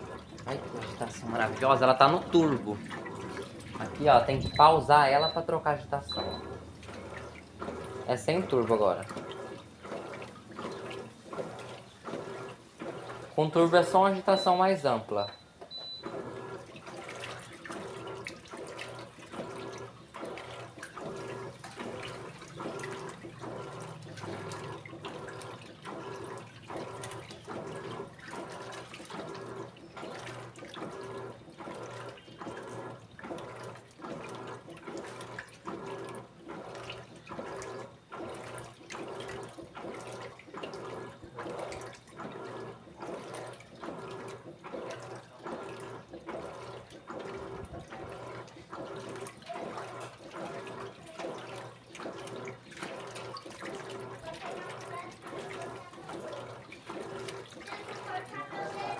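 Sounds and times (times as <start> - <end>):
motor hum: 0.0 - 58.9
washing machine sloshing: 0.0 - 58.9.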